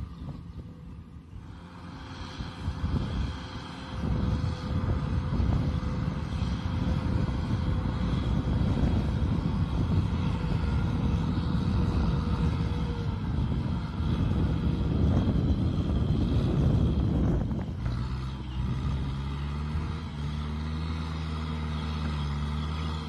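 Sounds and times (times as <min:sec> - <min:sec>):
tractor diesel engine rumbling: 0:00.0 - 0:23.0.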